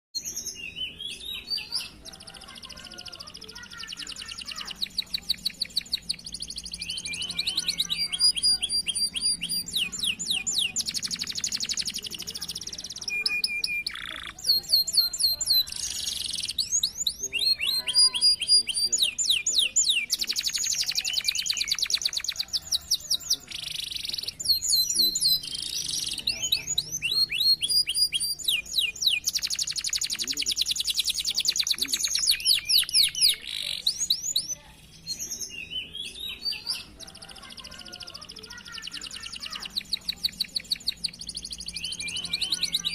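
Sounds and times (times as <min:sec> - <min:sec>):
canaries singing in trills: 0:00.2 - 0:42.9.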